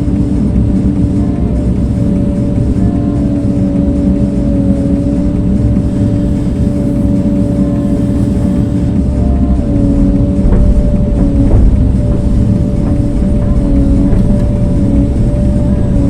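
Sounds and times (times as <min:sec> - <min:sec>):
earthmoving machine engine running: 0:00.0 - 0:16.0.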